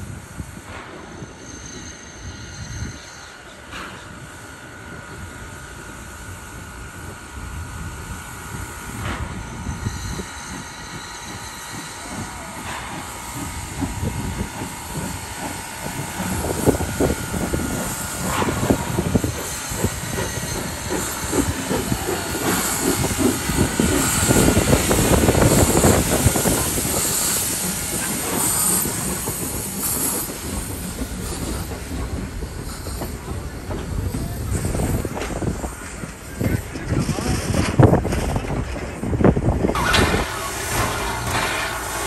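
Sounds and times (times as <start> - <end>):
steam hissing: 0.0 - 42.0
steam locomotive chuffing: 0.0 - 42.0
train wheels clacking on rails: 0.3 - 7.3, 8.4 - 42.0.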